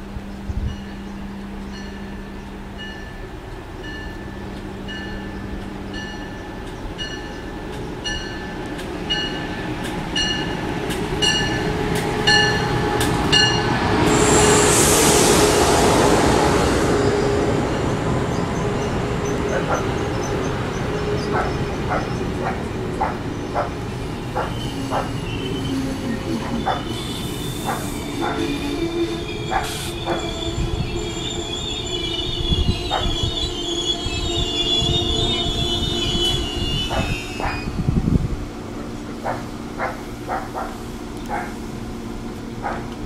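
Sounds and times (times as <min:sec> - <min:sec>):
train passing rush: 0:00.0 - 0:43.0.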